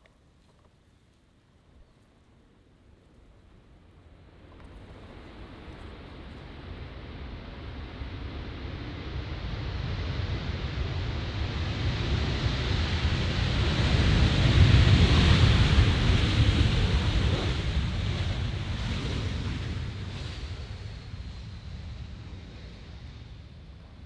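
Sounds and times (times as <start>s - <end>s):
jet engine roar: 4.2s - 24.0s.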